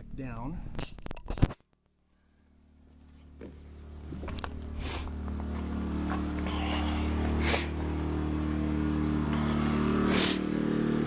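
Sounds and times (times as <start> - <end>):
generator running under load: 2.1 - 11.0.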